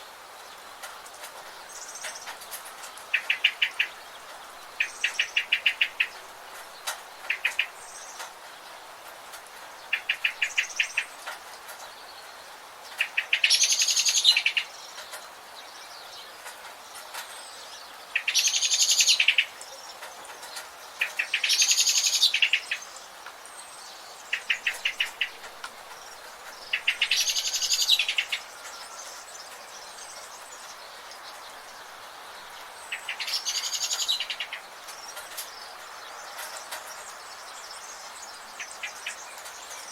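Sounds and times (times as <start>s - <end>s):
steady background hiss: 0.0s - 39.9s
wild birds singing trills: 0.0s - 39.9s.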